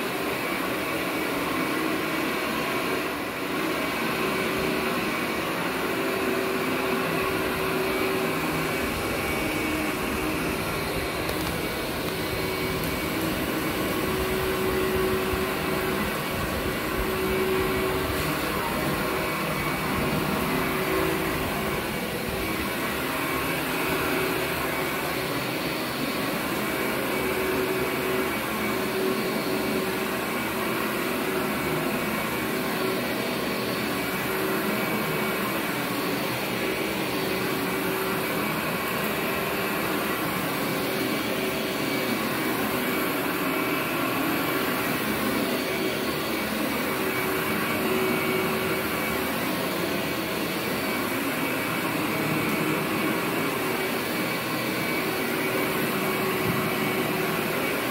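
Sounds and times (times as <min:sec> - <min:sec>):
upright vacuum cleaner running: 0:00.0 - 0:57.9.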